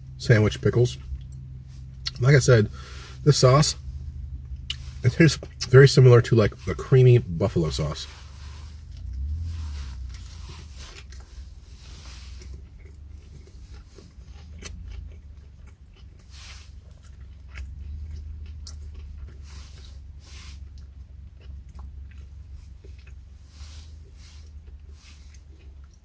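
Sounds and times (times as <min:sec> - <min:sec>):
low steady hum: 0:00.0 - 0:26.0
man chewing crunchy food: 0:00.0 - 0:26.0.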